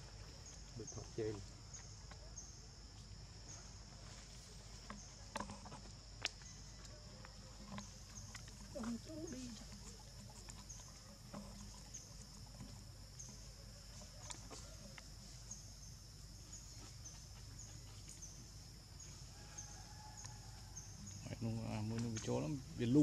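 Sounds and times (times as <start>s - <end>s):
insect buzzing chorus: 0.0s - 23.0s
short insect chirp: 0.0s - 23.0s.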